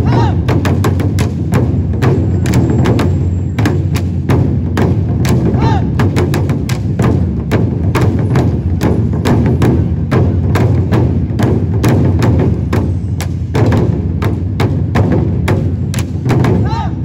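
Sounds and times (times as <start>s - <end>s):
barrel drums struck with sticks: 0.0s - 17.0s.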